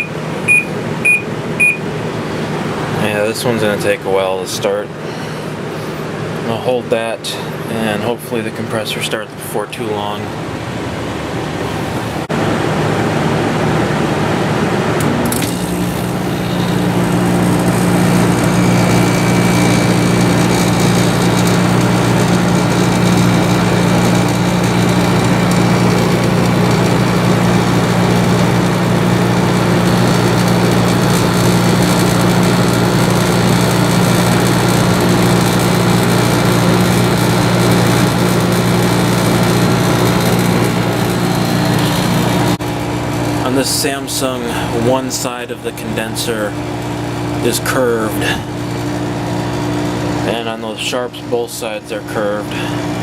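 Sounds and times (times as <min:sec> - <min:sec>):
compressor hum: 0:00.0 - 0:53.0
fan rushing: 0:00.0 - 0:53.0.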